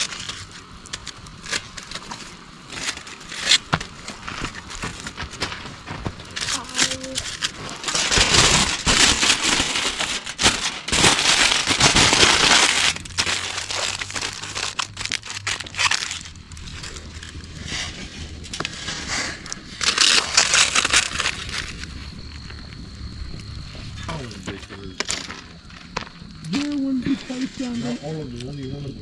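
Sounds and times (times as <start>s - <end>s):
crinkling and crackling: 0.0s - 29.0s.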